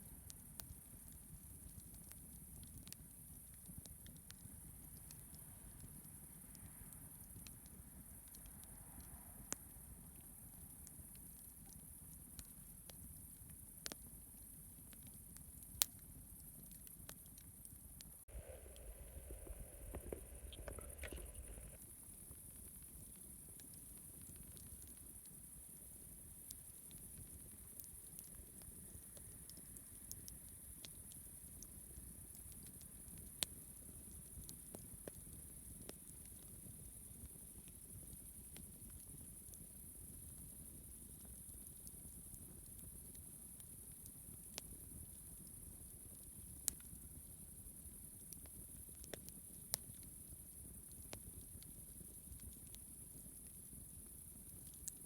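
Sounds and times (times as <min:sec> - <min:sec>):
campfire crackling: 0:00.1 - 0:55.0.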